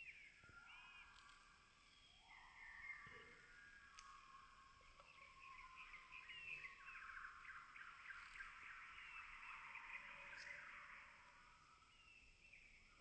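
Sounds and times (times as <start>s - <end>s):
small birds chirping and trilling: 0.0s - 13.0s.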